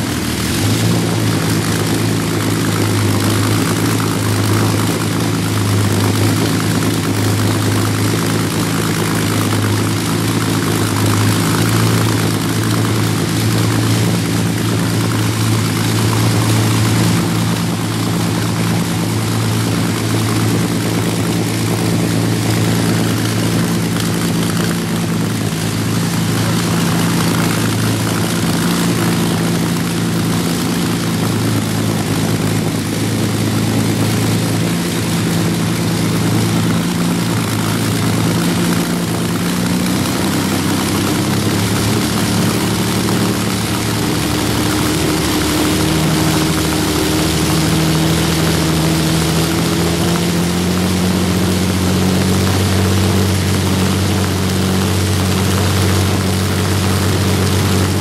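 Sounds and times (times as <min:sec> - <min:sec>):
aero engine droning: 0:00.0 - 0:58.0.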